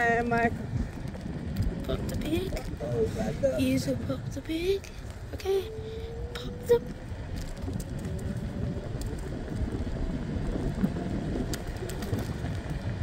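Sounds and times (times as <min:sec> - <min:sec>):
moving scooter road noise: 0:00.0 - 0:13.0
wind buffeting microphone: 0:00.0 - 0:13.0.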